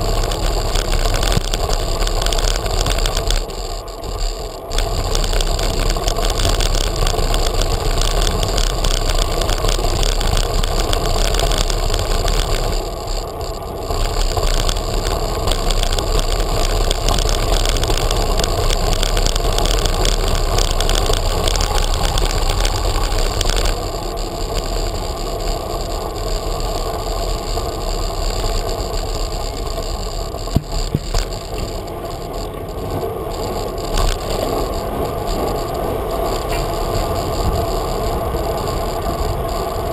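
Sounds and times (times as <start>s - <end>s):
bicycle tyres rolling and rattling: 0.0s - 39.9s.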